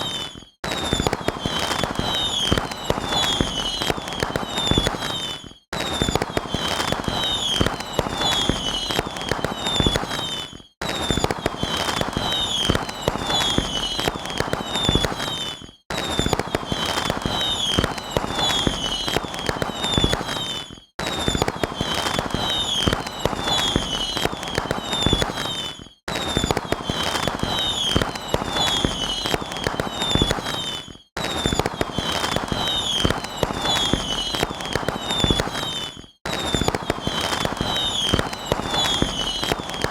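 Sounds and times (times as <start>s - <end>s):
fireworks crackling pops: 0.0s - 39.9s
fireworks falling whistles: 0.0s - 39.9s.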